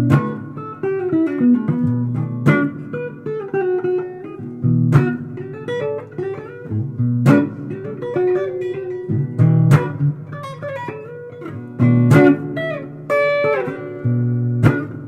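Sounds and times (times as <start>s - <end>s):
sharp struck guitar accent: 0.0s - 15.0s
solo blues guitar: 0.0s - 15.0s.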